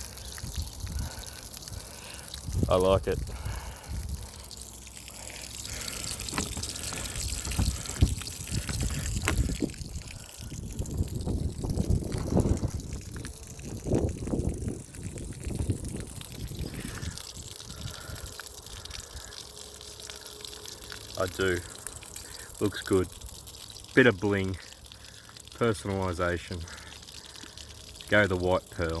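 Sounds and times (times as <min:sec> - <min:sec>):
water spurting and splashing: 0:00.0 - 0:29.0.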